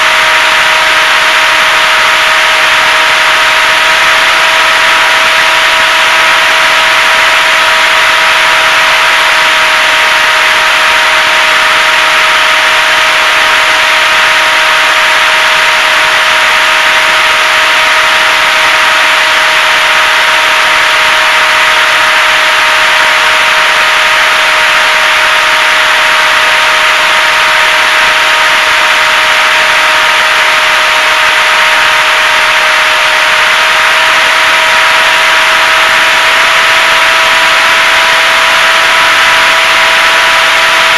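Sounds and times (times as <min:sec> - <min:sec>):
model plane motor and propeller: 0:00.0 - 0:40.9.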